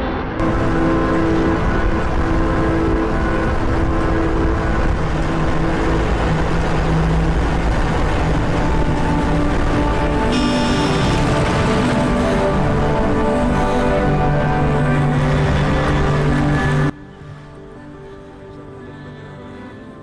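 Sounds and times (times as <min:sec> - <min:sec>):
low engine hum: 0:00.0 - 0:17.0
road and wind noise: 0:00.0 - 0:18.8.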